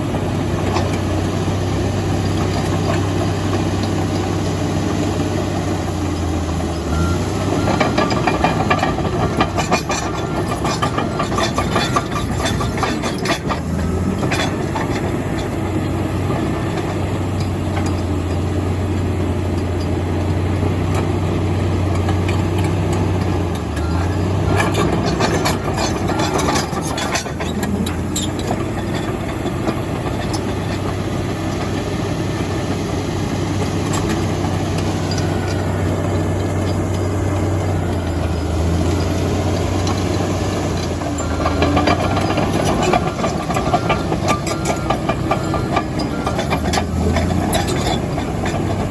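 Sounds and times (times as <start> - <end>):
bulldozer diesel engine running: 0.0 - 48.9
clatter: 7.5 - 21.2, 21.8 - 32.9, 33.6 - 38.4, 39.0 - 48.9.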